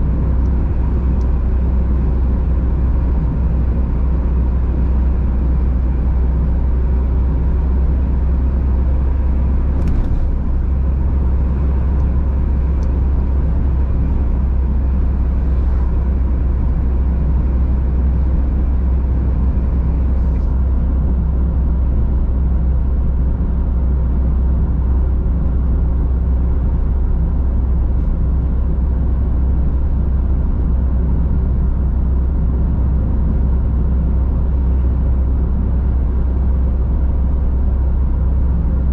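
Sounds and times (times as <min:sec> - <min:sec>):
car driving deep rumble: 0:00.0 - 0:38.9.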